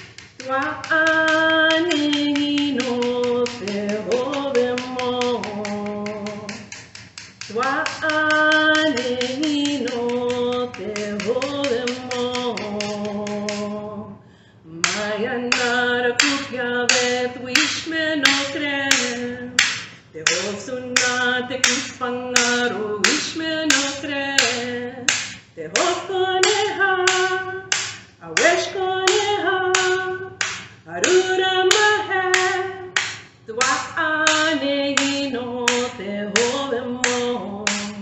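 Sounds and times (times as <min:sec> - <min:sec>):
wooden clapper stick clacks: 0:00.0 - 0:13.7, 0:14.8 - 0:38.0
woman singing: 0:00.4 - 0:06.8, 0:07.5 - 0:38.0.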